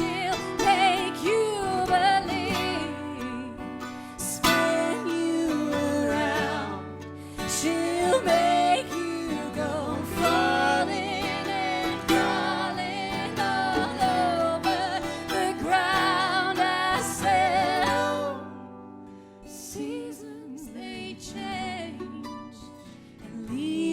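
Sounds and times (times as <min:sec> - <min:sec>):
person singing with vibrato: 0:00.0 - 0:18.7, 0:19.5 - 0:23.9
acoustic guitar: 0:00.0 - 0:23.9.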